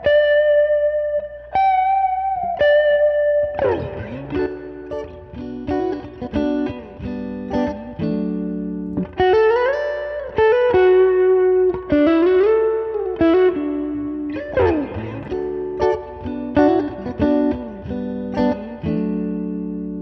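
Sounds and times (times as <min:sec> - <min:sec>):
overdriven electric guitar lead: 0:00.0 - 0:20.0.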